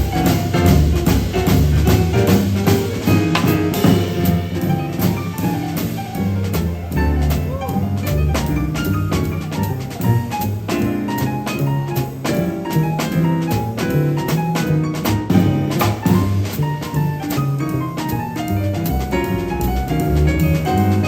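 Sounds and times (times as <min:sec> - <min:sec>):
drum kit cymbals: 0:00.0 - 0:20.9
jazz melodic lines: 0:00.0 - 0:21.0
walking bass line: 0:00.0 - 0:21.0.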